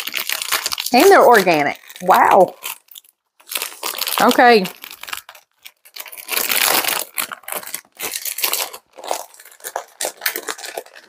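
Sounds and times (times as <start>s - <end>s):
plastic packaging crinkling and tearing: 0.0s - 11.0s.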